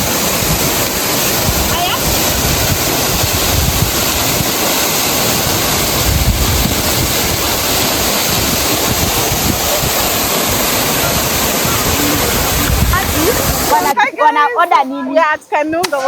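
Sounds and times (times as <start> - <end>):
waterfall rushing: 0.0 - 14.4
wind buffeting microphone: 0.0 - 14.6.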